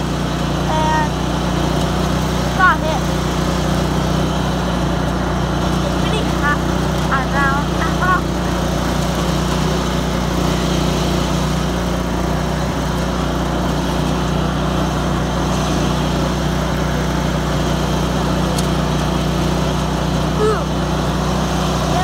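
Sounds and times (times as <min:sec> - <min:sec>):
riding lawn mower engine running: 0:00.0 - 0:22.0.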